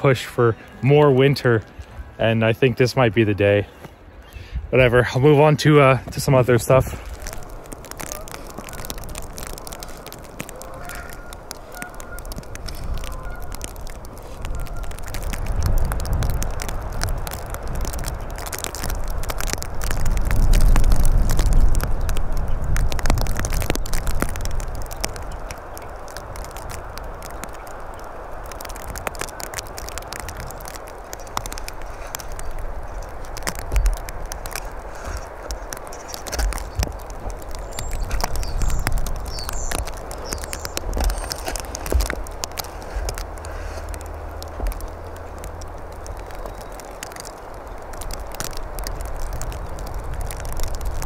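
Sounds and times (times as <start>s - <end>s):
small crackles: 0.0s - 51.0s
mud dropping onto snow: 5.3s - 51.0s.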